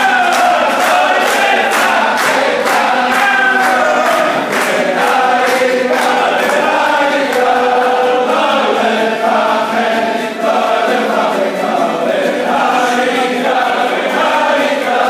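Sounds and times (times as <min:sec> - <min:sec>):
men singing in unison: 0:00.0 - 0:15.0
rhythmic hand clapping: 0:00.0 - 0:15.0.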